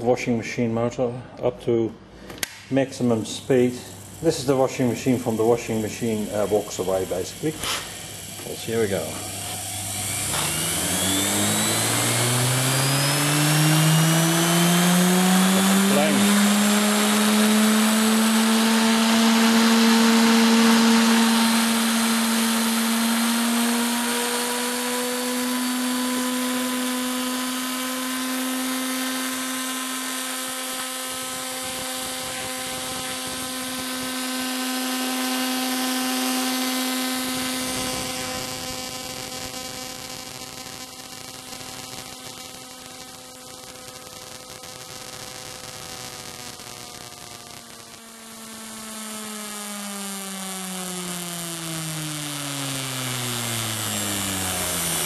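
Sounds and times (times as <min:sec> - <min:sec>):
washing machine motor whining: 0:03.2 - 0:46.6, 0:47.3 - 0:55.0.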